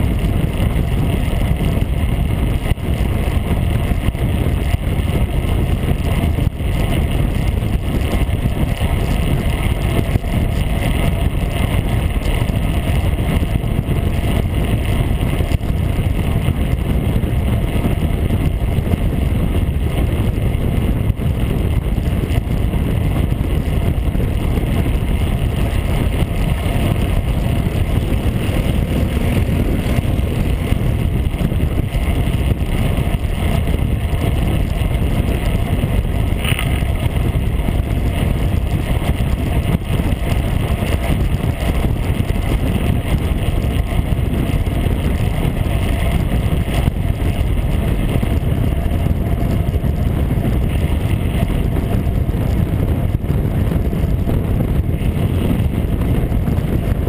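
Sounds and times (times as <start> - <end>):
road rumble: 0.0 - 57.0
wind rushing: 0.0 - 57.0.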